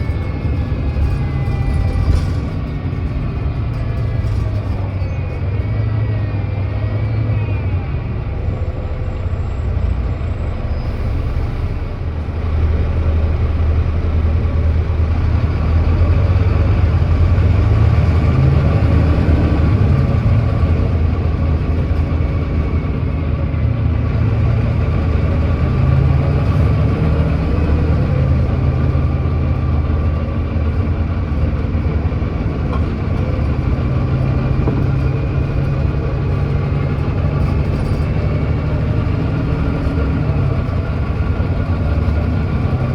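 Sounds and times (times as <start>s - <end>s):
bus diesel engine accelerating: 0.0s - 42.9s.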